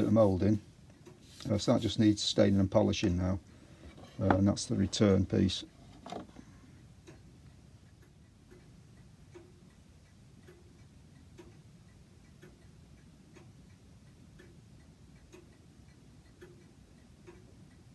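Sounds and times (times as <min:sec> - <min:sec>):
faint regular ticking: 0:00.0 - 0:17.9
low room noise: 0:00.0 - 0:17.9.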